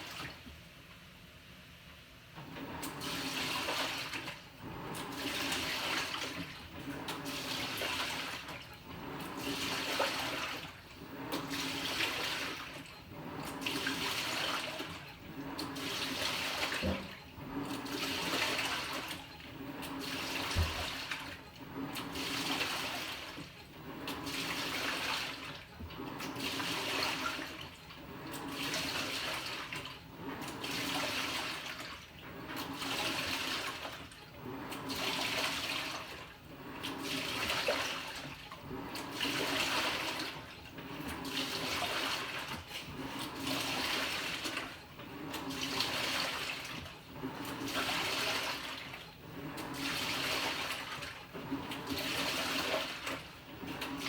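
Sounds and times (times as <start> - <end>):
water sloshing in washing machine: 0.0 - 0.9, 2.3 - 54.0.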